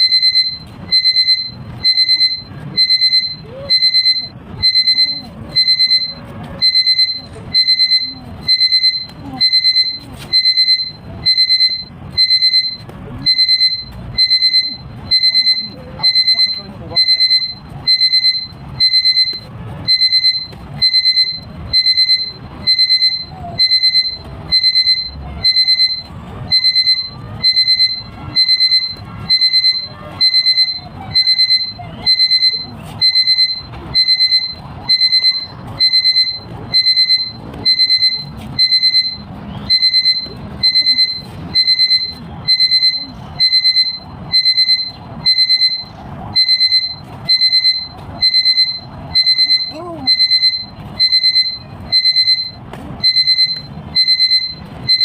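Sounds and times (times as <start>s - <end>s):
electronic alarm beeping: 0.0s - 55.0s.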